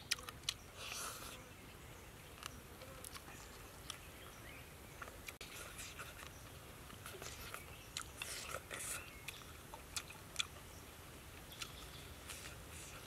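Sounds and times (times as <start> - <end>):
soft chewing: 0.0 - 1.6, 2.2 - 13.0
background hiss: 0.0 - 13.0.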